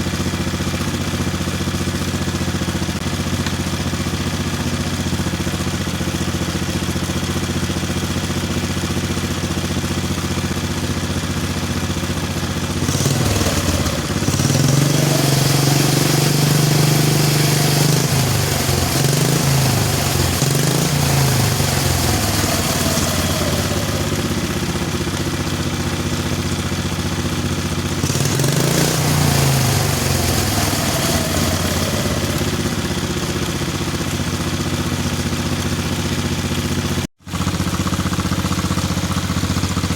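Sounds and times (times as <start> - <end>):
small engine idling and revving: 0.0 - 39.9.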